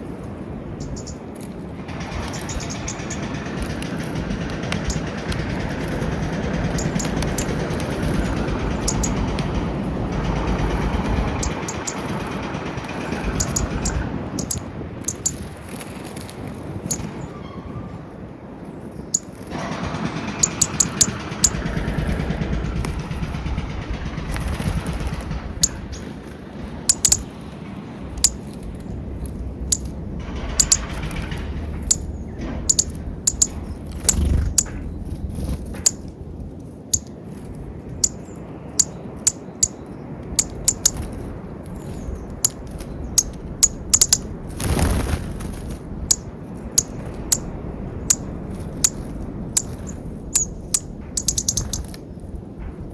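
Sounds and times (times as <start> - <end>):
low background rumble: 0.0 - 52.9
small birds chipping: 0.0 - 52.9.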